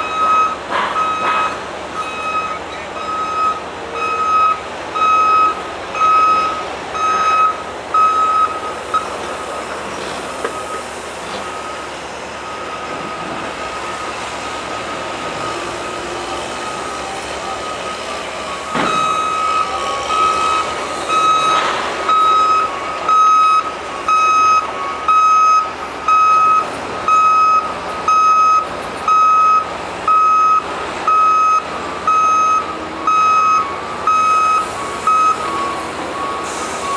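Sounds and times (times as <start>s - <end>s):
back-up alarm beeping: 0.0s - 9.2s, 11.4s - 36.9s
machinery noise: 0.0s - 36.9s.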